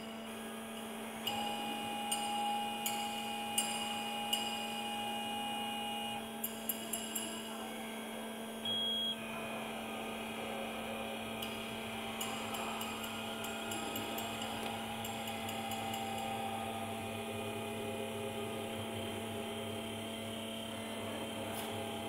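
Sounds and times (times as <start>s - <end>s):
high machine whine: 0.0s - 7.2s, 8.0s - 22.0s
machine electrical hum: 0.0s - 22.0s.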